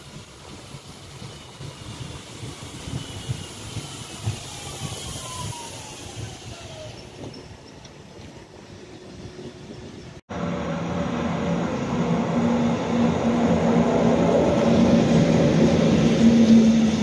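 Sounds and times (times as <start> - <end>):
train wheel rumble: 0.0 - 17.0
locomotive hum: 0.1 - 17.0.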